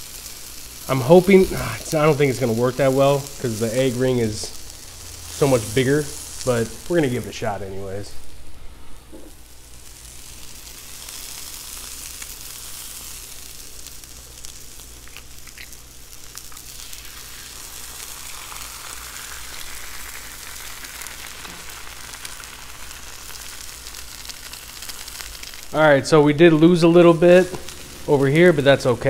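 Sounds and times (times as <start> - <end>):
food sizzling on a griddle: 0.0 - 8.4, 9.2 - 29.0.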